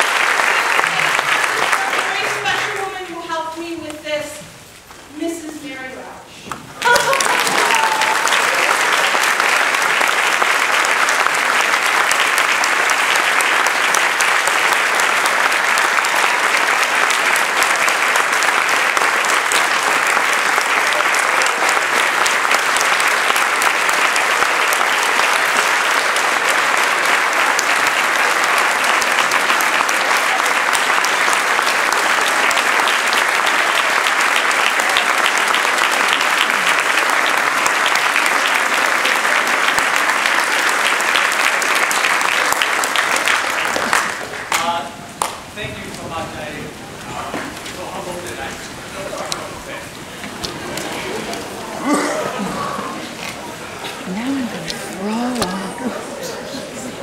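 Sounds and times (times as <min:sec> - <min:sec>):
large audience clapping: 0:00.0 - 0:04.1, 0:06.5 - 0:57.0.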